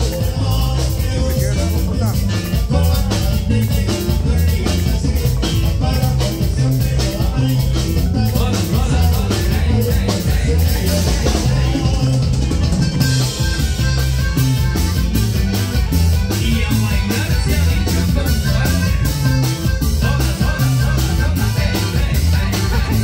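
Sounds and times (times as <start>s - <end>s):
accordion: 0.0s - 23.0s
bass line: 0.0s - 23.0s
drum kit beat: 0.0s - 23.0s
guitars: 0.0s - 23.0s.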